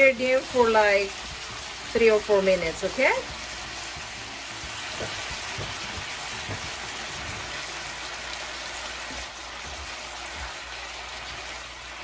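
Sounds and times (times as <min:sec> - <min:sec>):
beef sizzling in a skillet: 0:00.0 - 0:12.0.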